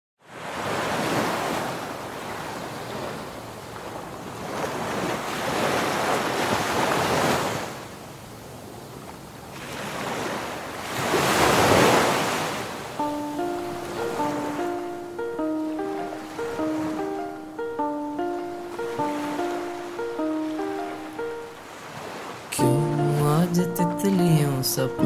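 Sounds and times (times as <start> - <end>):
waves breaking and washing in: 0.2 - 25.0.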